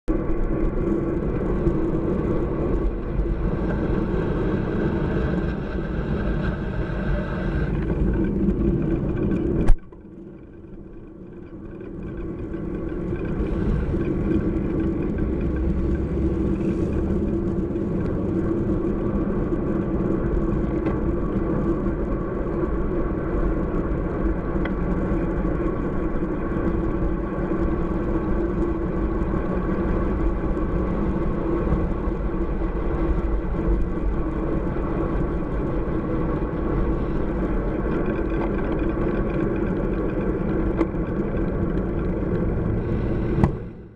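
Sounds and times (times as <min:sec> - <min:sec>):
truck engine running: 0:00.1 - 0:43.9.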